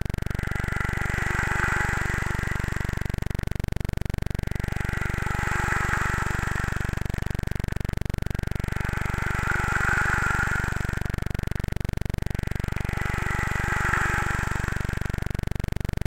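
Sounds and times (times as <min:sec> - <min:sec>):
low synth drone: 0:00.0 - 0:16.0.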